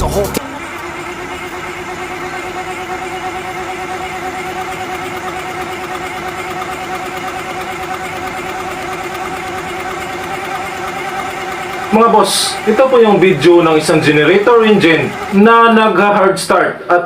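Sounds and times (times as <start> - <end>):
diesel generator engine running: 0.0 - 16.3.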